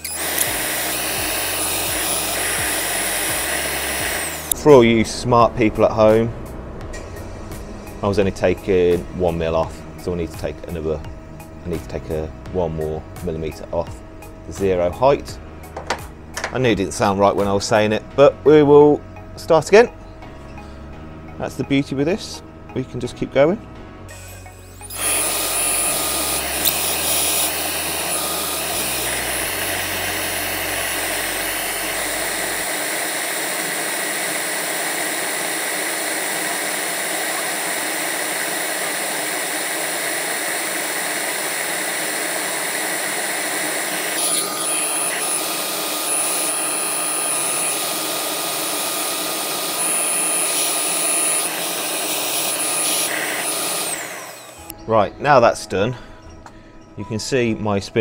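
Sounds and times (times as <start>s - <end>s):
dust extractor running: 0.0s - 54.8s
router spindle whining: 0.0s - 55.9s.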